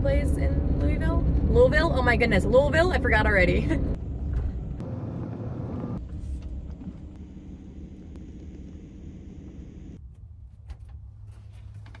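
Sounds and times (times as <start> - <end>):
road noise: 0.0 - 10.0
vehicle driving rumble: 0.0 - 10.0.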